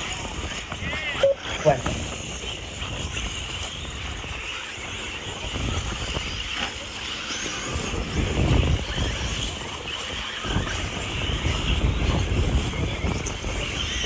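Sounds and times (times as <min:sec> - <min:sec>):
rc car motors droning: 0:00.0 - 0:14.0
wind noise on microphone: 0:00.0 - 0:14.0.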